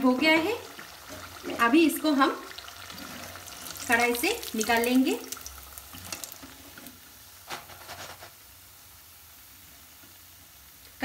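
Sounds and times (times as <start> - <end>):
frying oil sizzling: 0.0 - 11.0.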